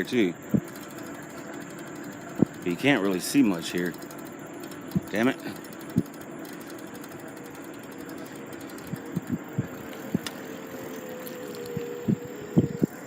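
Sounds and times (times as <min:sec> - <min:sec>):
electric bike motor whine: 0:00.0 - 0:13.0.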